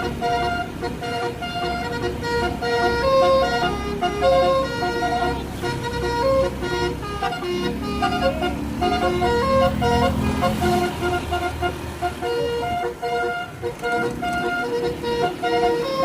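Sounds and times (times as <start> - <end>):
low vehicle engine rumble: 0.0 - 16.0
musical horn playing a tune: 0.0 - 16.0.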